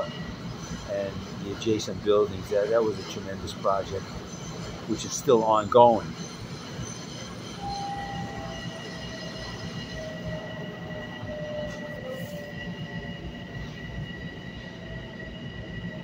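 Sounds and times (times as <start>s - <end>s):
train wheels rumbling on rail: 0.0s - 16.0s
wavering squeal: 0.0s - 16.0s.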